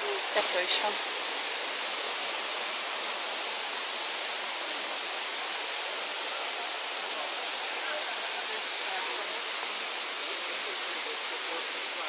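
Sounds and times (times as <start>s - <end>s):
rushing water hiss: 0.0s - 12.0s.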